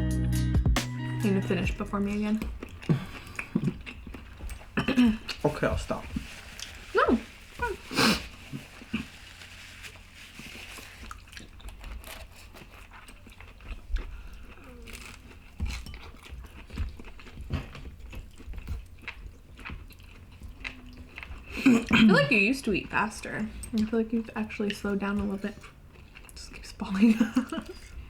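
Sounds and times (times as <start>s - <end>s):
chewing: 1.1s - 28.0s.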